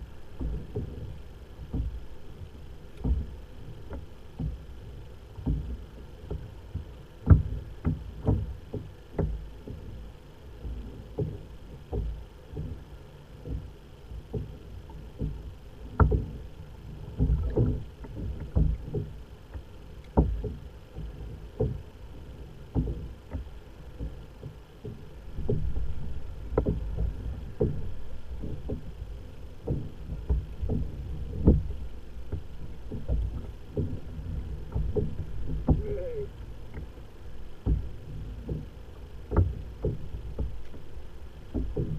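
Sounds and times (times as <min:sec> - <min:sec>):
small waves slapping kayak hull: 0:00.0 - 0:41.9
steady low rumble: 0:00.0 - 0:41.9.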